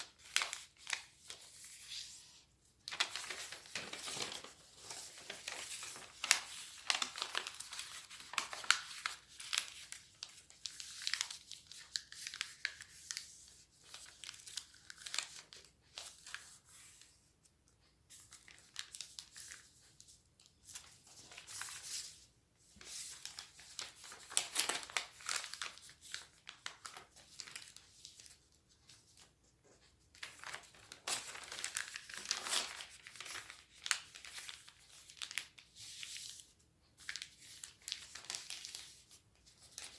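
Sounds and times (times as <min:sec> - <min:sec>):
paper being folded and creased: 0:00.0 - 0:39.9.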